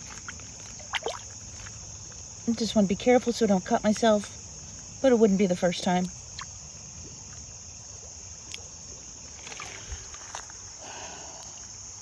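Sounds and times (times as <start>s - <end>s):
crickets and insects chirring: 0.0s - 12.0s.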